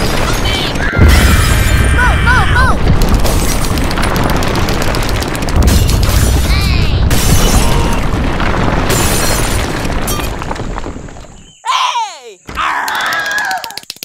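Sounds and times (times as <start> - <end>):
rumbling boom with crackling: 0.0 - 11.4.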